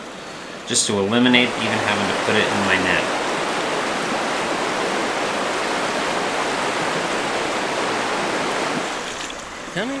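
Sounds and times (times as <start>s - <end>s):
river water rushing over rocks: 0.0s - 10.0s.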